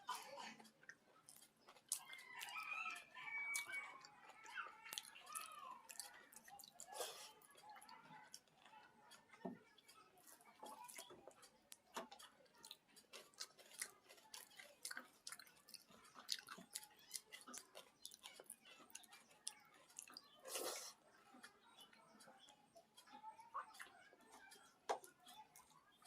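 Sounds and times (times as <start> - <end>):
chewing with wet mouth clicks: 0.5 - 26.0.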